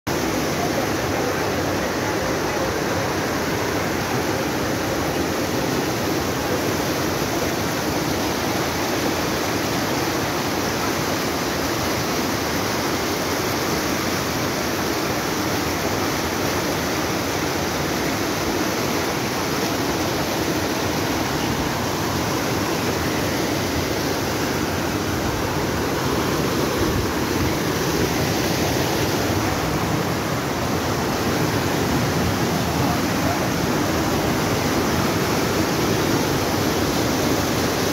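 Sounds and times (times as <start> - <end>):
creek rushing over rocks: 0.1 - 37.9.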